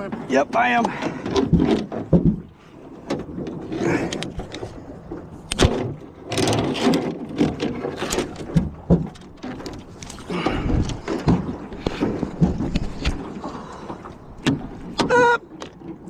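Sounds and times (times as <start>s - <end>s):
knocks and scrapes on a boat: 0.0s - 16.0s.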